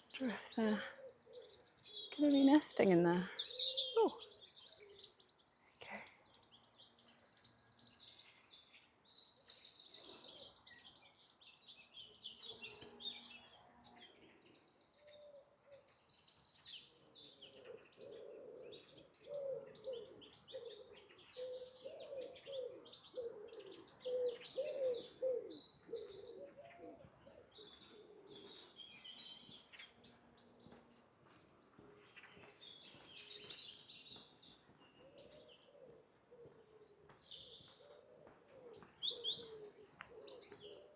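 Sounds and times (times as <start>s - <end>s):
birds singing and chirping: 0.0s - 40.9s
lower repeated bird calls: 5.8s - 40.9s.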